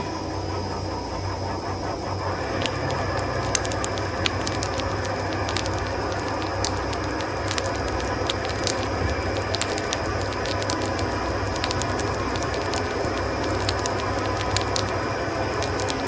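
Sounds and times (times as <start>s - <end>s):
machine motor humming: 0.0s - 16.0s
sharp clicks and ticks: 0.0s - 16.0s.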